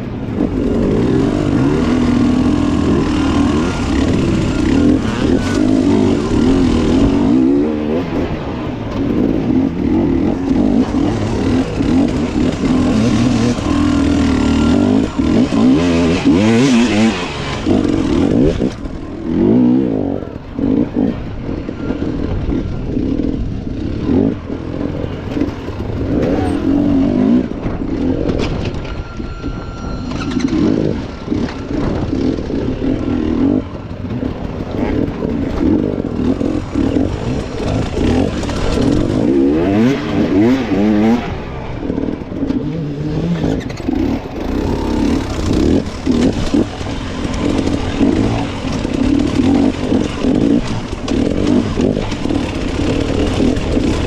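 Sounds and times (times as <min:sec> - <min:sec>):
dirt bike engine revving: 0:00.0 - 0:28.4, 0:30.3 - 0:54.0.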